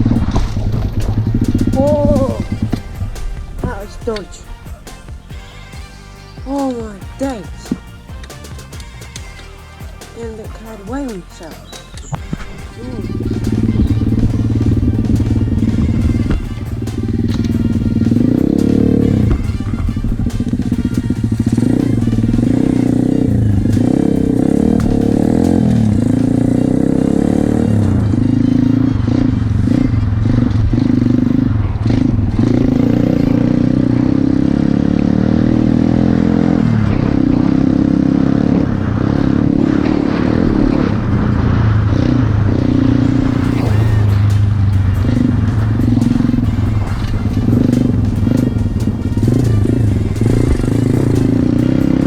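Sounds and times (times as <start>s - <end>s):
pit bike engine revving: 0.0s - 52.0s.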